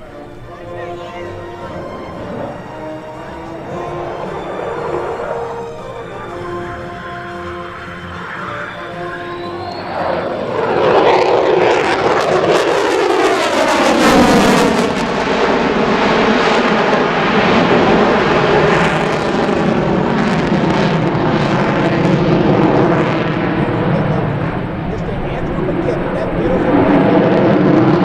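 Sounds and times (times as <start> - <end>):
jet fighter afterburner roar: 0.0 - 28.0.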